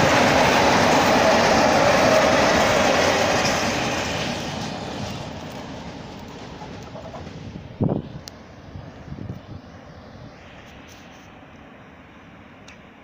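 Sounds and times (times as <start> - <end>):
freight train wheels rumbling: 0.0 - 10.4.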